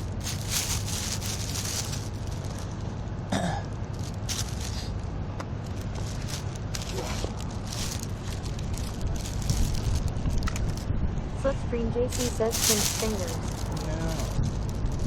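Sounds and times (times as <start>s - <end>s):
rustling bursts: 0.0s - 3.0s, 3.7s - 10.9s, 12.1s - 15.0s
street rumble with hiss: 0.0s - 15.0s.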